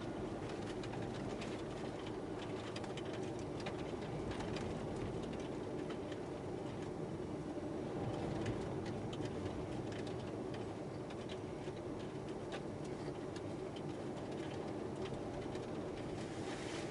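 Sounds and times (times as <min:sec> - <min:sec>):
light irregular ticks: 0:00.0 - 0:16.3
low rumble inside a car: 0:00.0 - 0:16.9.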